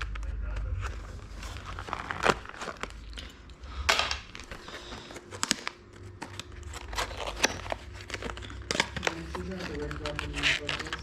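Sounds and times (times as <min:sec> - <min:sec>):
plastic packaging crinkling: 0:00.0 - 0:11.0
steady low hum: 0:00.0 - 0:11.0.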